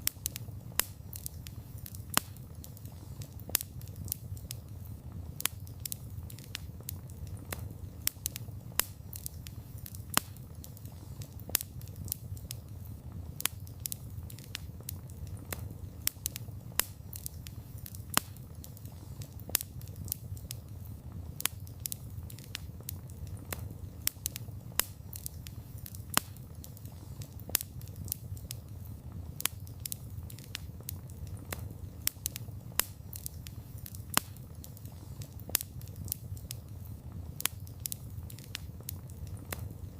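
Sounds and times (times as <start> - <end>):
burning wood crackling and popping: 0.0 - 39.9
campfire flames rumbling: 0.0 - 39.9.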